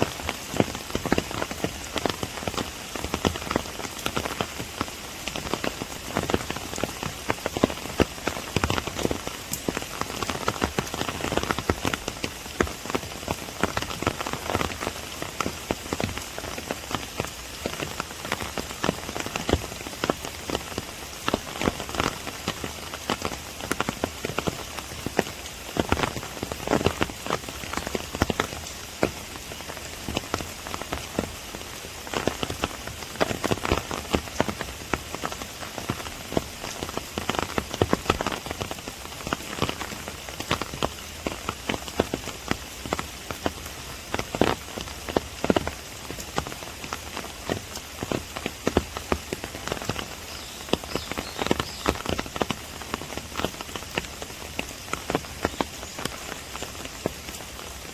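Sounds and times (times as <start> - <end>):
close raindrop hits: 0.0 - 57.9
steady rain hiss: 0.0 - 57.9.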